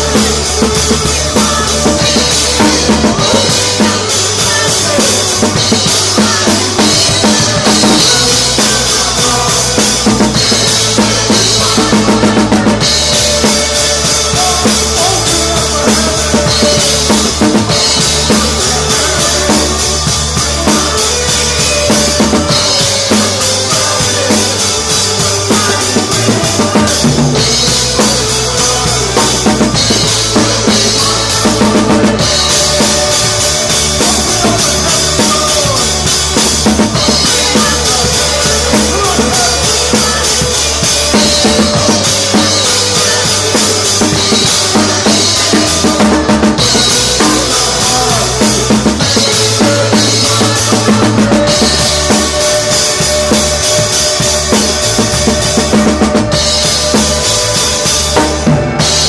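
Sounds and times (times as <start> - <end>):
drum kit beat: 0.0 - 59.0
worship band playing: 0.0 - 59.0.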